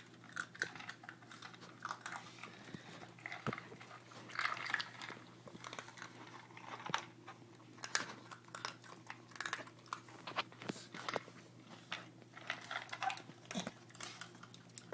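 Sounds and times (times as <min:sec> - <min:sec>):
dog crunching food: 0:00.0 - 0:14.9.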